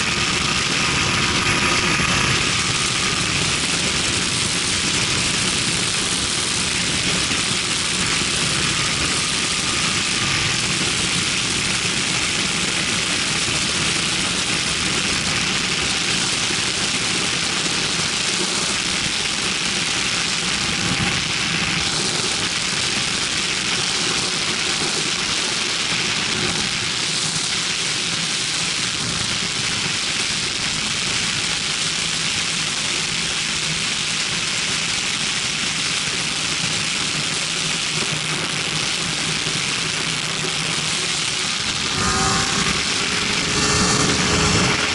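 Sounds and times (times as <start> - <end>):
aircraft engine and propeller: 0.0 - 44.9.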